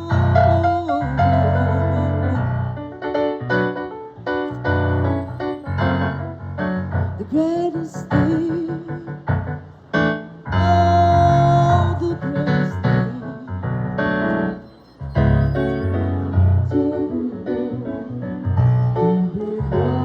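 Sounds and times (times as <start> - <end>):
piano playing chords: 0.0 - 20.0.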